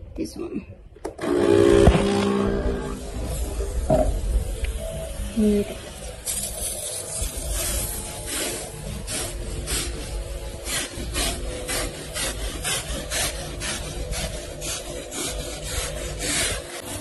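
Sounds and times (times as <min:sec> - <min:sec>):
vacuum motor hum: 0:01.1 - 0:17.0.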